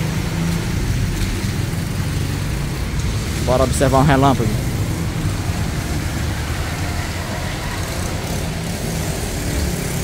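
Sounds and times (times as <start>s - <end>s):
heavy rain falling: 0.0s - 10.0s
road traffic engine hum: 0.0s - 10.0s.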